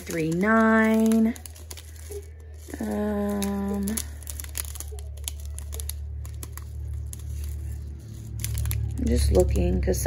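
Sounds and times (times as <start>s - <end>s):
plastic bags crinkling: 0.0s - 9.9s.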